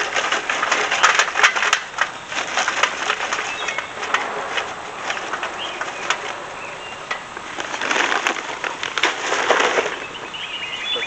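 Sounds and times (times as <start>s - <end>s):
charcoal clattering from metal chimney: 0.0s - 10.3s.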